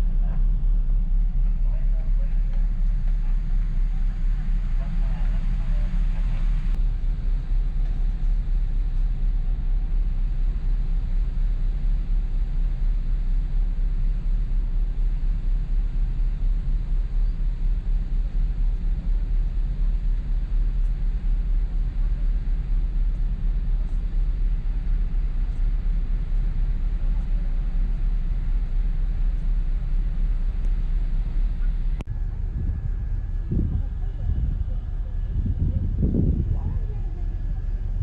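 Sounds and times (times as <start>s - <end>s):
ferry engine rumble: 0.0s - 38.0s.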